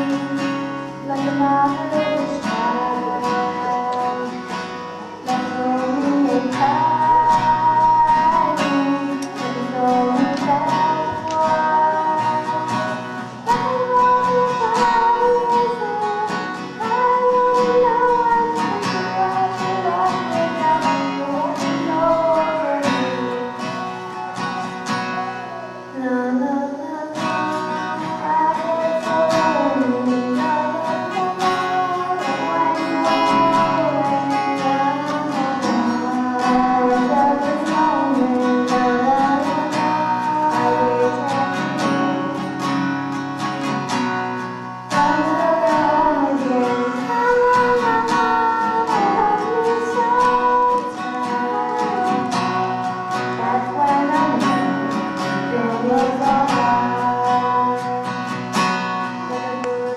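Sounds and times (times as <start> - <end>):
person singing: 0.0 - 59.9
strummed acoustic guitar: 0.0 - 59.9.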